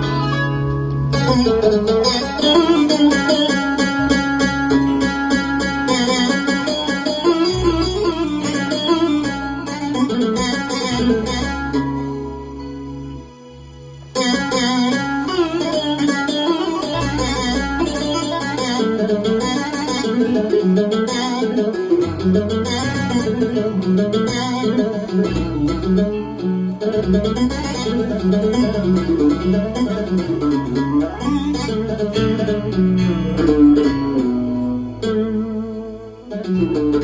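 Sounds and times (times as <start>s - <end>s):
held bass notes: 0.0s - 37.0s
plucked-string lead melody: 0.0s - 37.0s.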